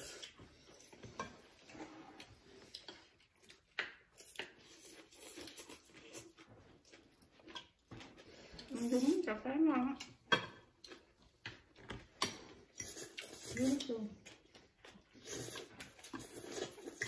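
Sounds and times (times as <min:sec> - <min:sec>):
noodles being slurped and chewed: 0:00.0 - 0:09.4, 0:10.8 - 0:17.0.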